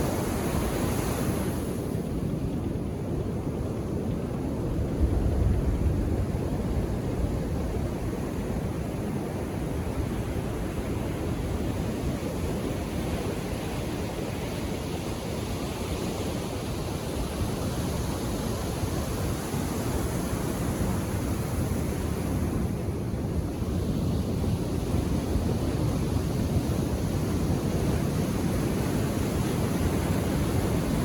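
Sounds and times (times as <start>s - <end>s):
waves breaking on beach: 0.0s - 31.0s.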